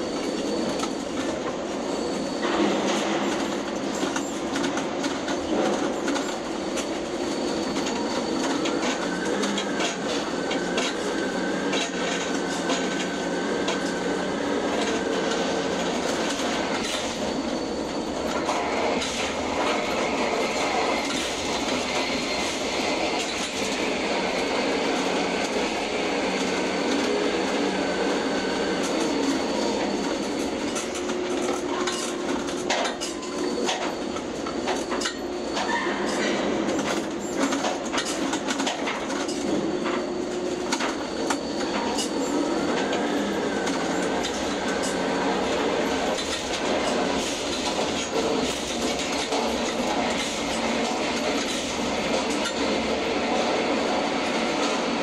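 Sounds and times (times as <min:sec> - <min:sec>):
crane machinery rumble and rattle: 0:00.0 - 0:55.0.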